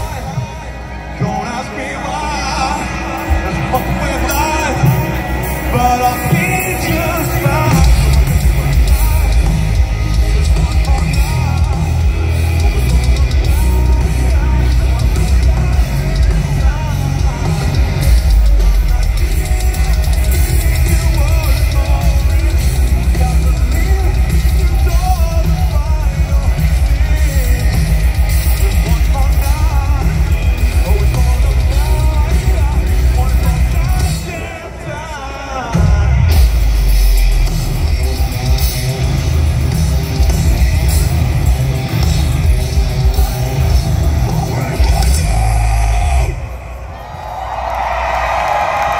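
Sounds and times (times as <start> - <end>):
heavy metal band playing live: 0.0 - 48.9.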